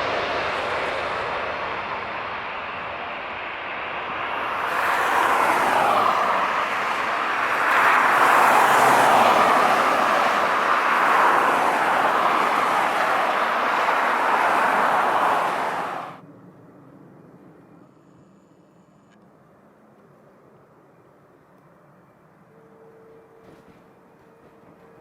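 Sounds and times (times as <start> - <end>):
jet engines at high thrust: 0.0 - 22.6.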